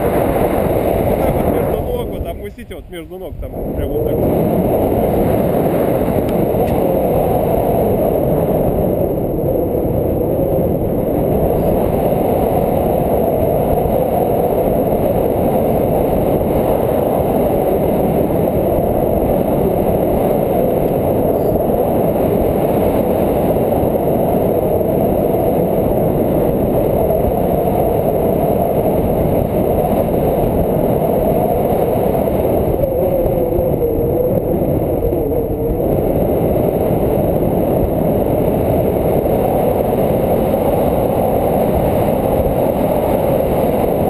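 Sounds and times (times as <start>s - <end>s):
wind rumble on microphone: 0.0s - 44.0s.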